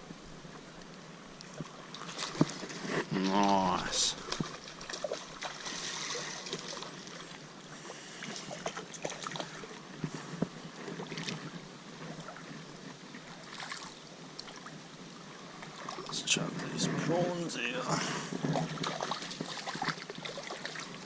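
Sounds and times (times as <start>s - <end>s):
creek water running: 0.0s - 21.0s.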